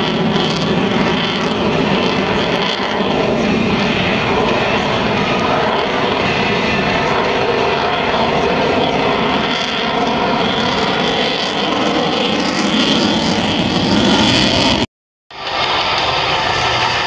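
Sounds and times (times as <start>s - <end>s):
jet roar: 0.0s - 17.0s.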